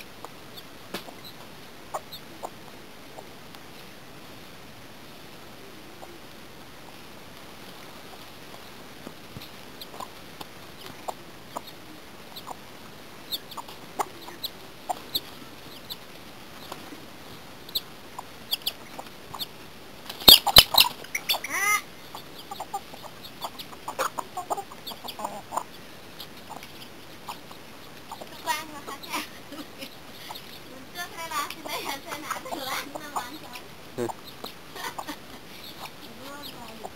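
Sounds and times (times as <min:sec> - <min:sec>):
chickens calling loudly: 0:00.0 - 0:03.4, 0:08.0 - 0:36.9
chickens clucking and peeping: 0:00.0 - 0:04.3, 0:05.0 - 0:36.9.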